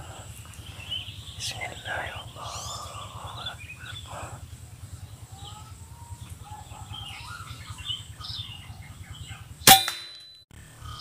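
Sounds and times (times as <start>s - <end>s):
birds chirping and calling: 0.0s - 9.9s, 10.7s - 11.0s
low outdoor rumble: 0.0s - 11.0s.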